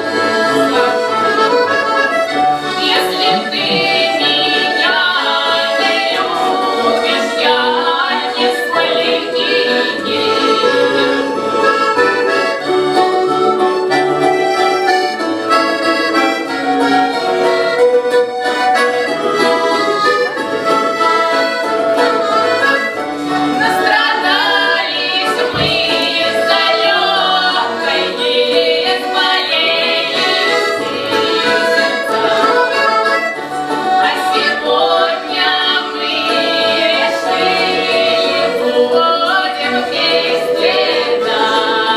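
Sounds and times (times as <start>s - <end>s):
accordion playing folk tune: 0.0s - 41.9s.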